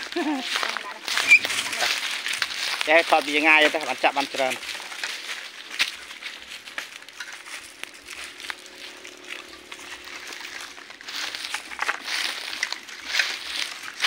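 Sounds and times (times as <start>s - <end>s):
dogs rustling through dry leaves: 0.0s - 14.0s.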